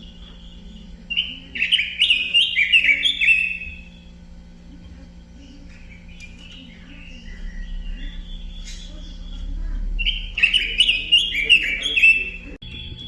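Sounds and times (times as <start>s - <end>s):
bird singing whistled notes: 0.0s - 4.1s, 5.9s - 13.0s.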